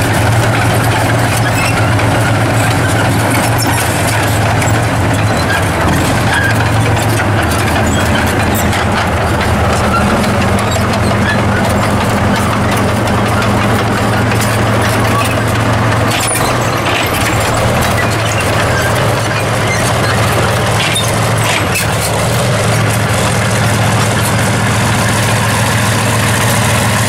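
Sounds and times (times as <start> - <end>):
tank diesel engine running: 0.0 - 27.0
tank tracks clicking and clattering: 0.0 - 27.0.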